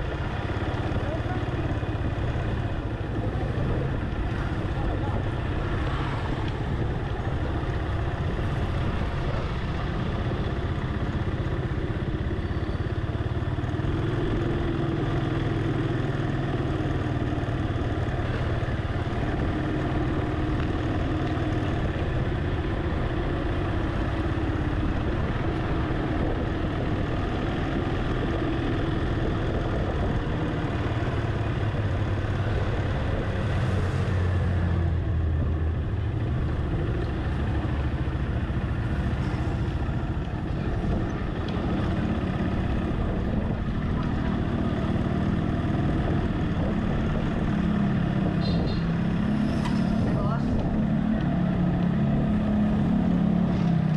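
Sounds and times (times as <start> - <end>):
road and traffic rumble: 0.0 - 53.9
vehicle engine running: 0.0 - 53.9.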